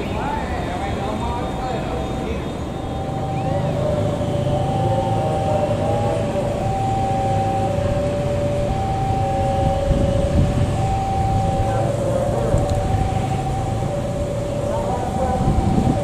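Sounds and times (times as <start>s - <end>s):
diesel train rumble: 0.0s - 16.0s
two-tone electronic warning alarm: 0.0s - 16.0s.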